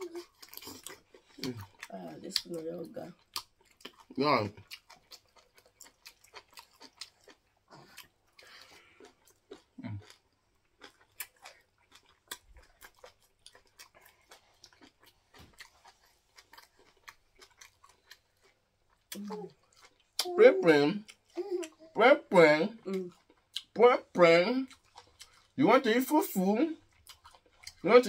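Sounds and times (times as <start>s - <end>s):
chewing and mouth sounds: 0.0s - 25.6s, 26.2s - 28.0s.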